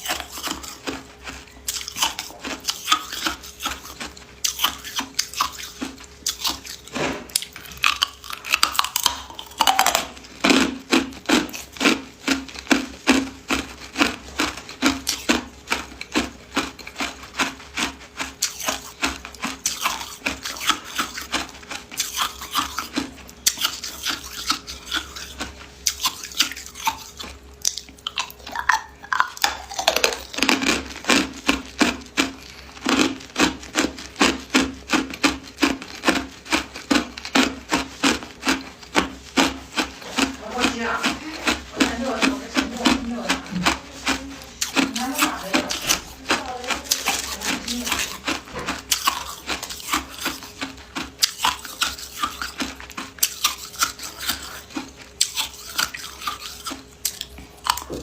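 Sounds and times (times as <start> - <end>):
ice crunching in mouth: 0.0 - 58.0.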